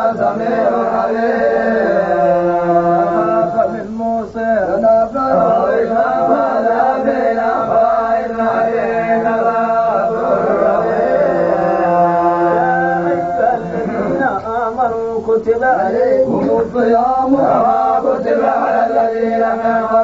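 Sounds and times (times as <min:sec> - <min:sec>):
man chanting melodic recitation: 0:00.0 - 0:20.0.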